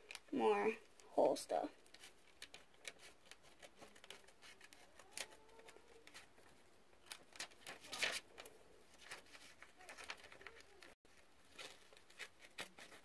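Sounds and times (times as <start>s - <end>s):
paper rustling: 1.6s - 13.0s
scissors snipping paper: 1.8s - 13.0s.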